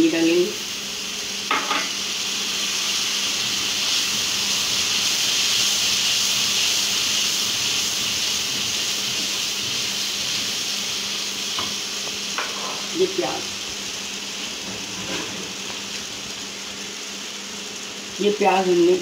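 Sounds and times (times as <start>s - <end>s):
spices sizzling and hissing in a pan: 0.0s - 19.0s.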